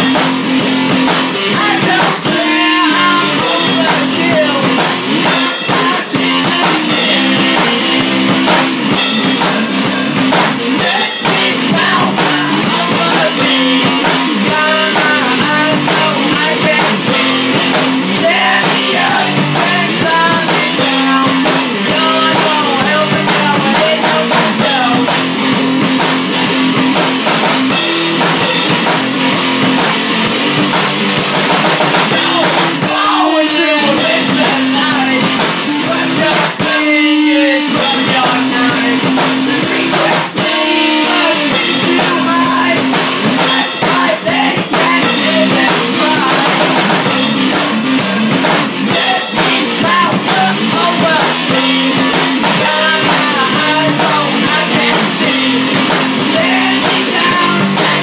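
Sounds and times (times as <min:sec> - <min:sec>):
drum kit driving beat: 0:00.0 - 0:58.0
electric guitar: 0:00.0 - 0:58.0.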